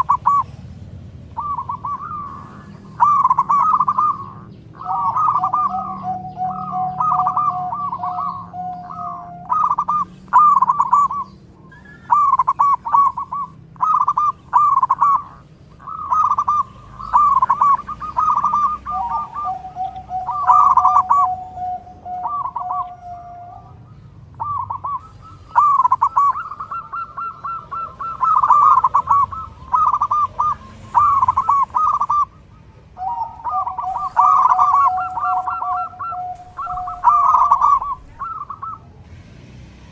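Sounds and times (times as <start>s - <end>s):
doves cooing in trills: 0.0s - 39.3s.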